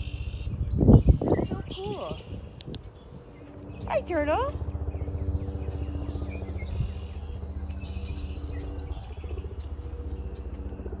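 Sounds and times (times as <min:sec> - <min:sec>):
low hum and rumble: 0:00.0 - 0:11.0
small birds chirping: 0:00.0 - 0:11.0.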